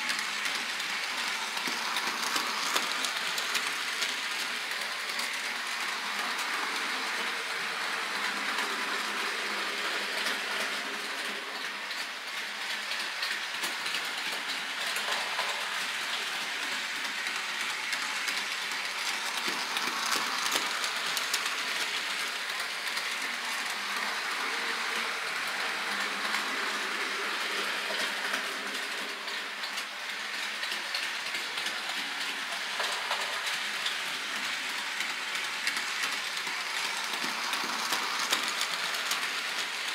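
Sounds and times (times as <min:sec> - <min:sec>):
model train wheels clicking on track: 0:00.0 - 0:39.9.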